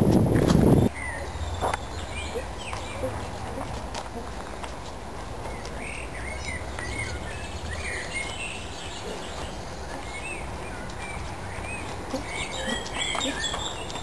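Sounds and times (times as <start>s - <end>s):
birds chirping and singing: 0.7s - 3.8s, 5.4s - 14.0s.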